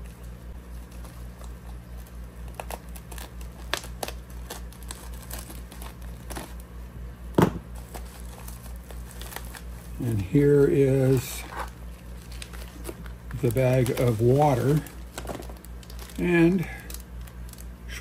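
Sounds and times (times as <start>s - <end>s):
bubble mailer crinkling and tearing: 0.0s - 6.8s, 7.7s - 18.0s
steady low hum: 0.0s - 18.0s.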